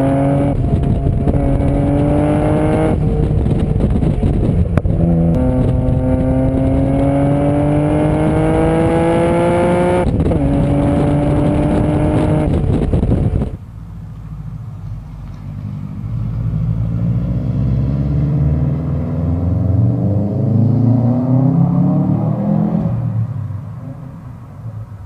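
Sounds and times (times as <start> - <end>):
car exhaust accelerating: 0.0 - 25.0
turbo car engine rumble: 0.0 - 25.0.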